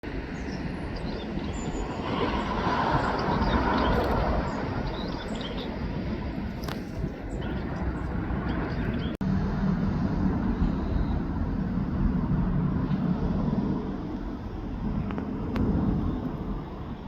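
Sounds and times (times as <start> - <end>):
jet airliner rumble: 0.0 - 17.0.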